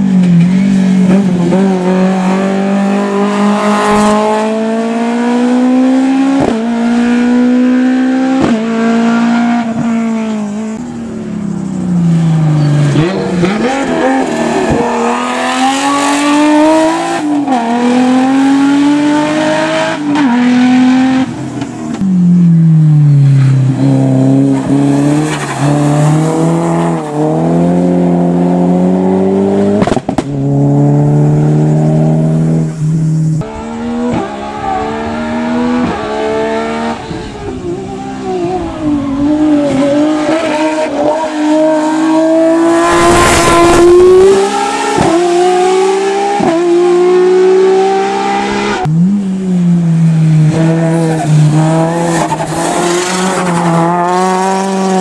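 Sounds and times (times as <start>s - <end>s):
race car engine accelerating: 0.1s - 55.0s.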